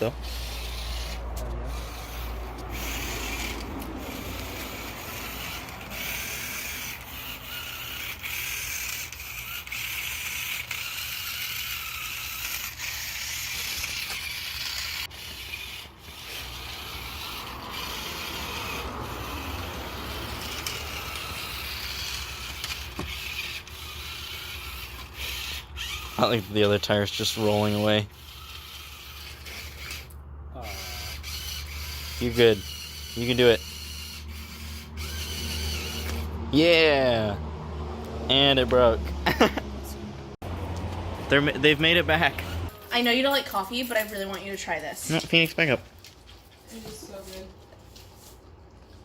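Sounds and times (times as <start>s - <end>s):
toy car motor whirring: 0.0s - 37.4s, 41.4s - 48.4s.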